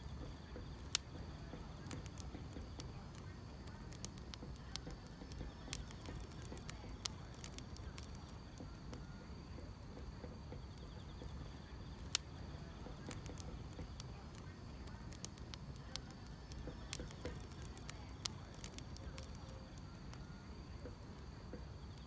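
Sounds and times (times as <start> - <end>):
firewood burning and crackling: 0.0 - 22.0
insects chirping: 0.0 - 22.0.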